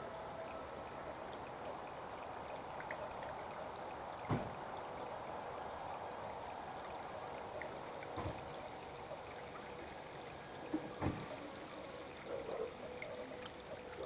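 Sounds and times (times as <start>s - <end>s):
pond water trickling and splashing: 0.0s - 14.0s.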